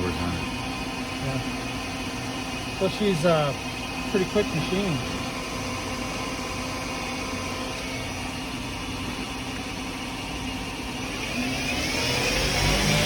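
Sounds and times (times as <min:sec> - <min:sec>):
lathe spindle humming and whining: 0:00.0 - 0:13.0.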